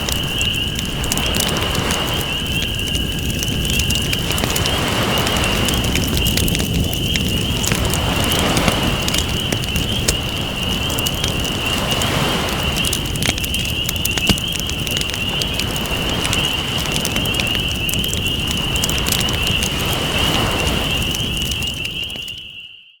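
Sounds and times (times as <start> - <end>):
ocean waves washing in: 0.0 - 13.3, 15.0 - 21.9
campfire crackling and popping: 0.0 - 22.6.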